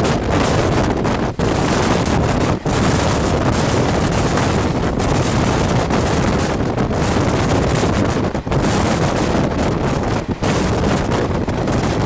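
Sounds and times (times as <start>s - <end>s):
train running rumble: 0.0s - 12.0s
wind buffeting the microphone: 0.0s - 12.0s.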